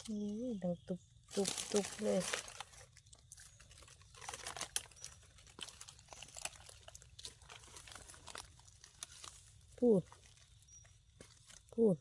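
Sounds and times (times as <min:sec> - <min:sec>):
leaf litter crackling and rustling: 0:01.2 - 0:11.8.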